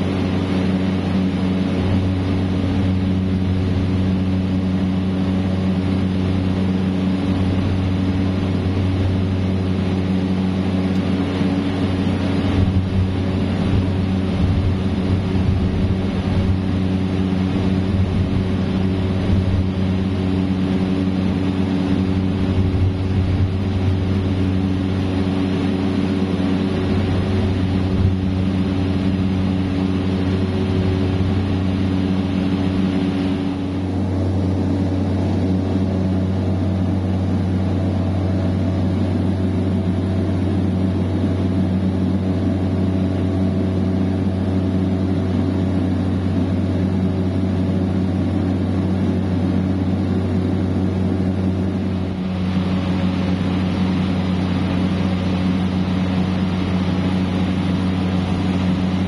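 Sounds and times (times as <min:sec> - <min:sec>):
turboprop engine cabin drone: 0:00.0 - 0:59.0.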